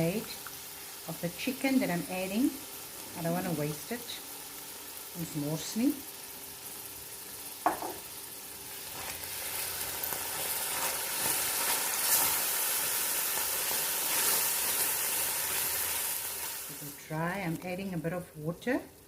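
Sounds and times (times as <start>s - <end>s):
masala sizzling in a pot: 0.0s - 19.0s.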